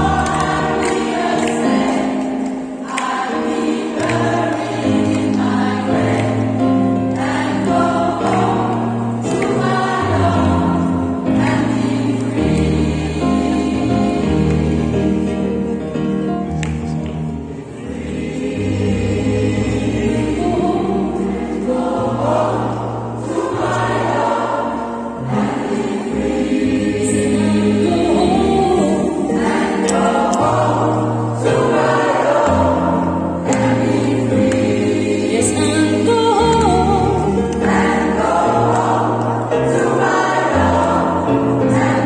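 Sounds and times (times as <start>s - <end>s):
choir singing in harmony: 0.0s - 16.6s, 17.3s - 42.0s.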